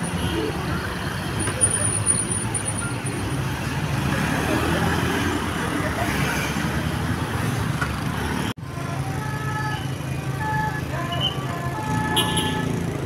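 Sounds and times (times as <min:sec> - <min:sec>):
roadside traffic: 0:00.0 - 0:13.0.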